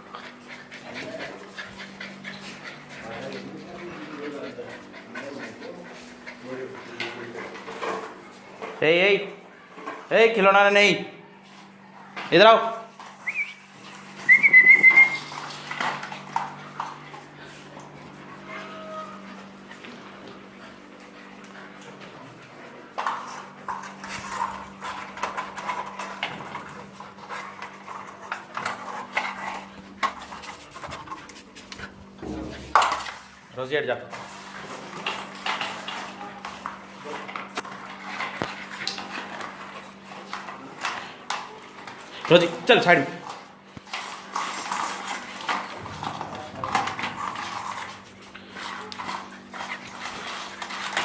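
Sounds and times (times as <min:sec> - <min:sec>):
dogs panting: 0:00.0 - 0:08.8, 0:12.9 - 0:33.5, 0:34.1 - 0:51.0
puppies playing: 0:00.0 - 0:10.1, 0:11.2 - 0:51.0.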